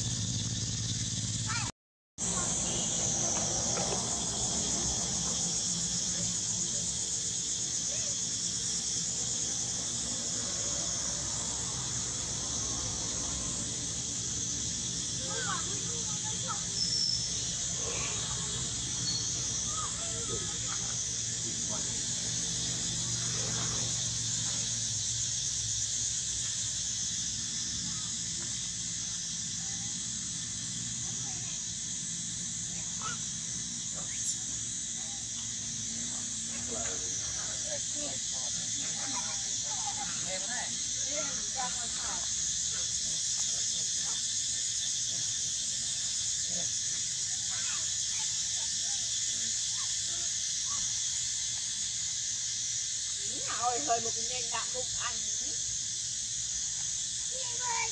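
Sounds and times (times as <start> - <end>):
high hiss: 0.0 - 57.9.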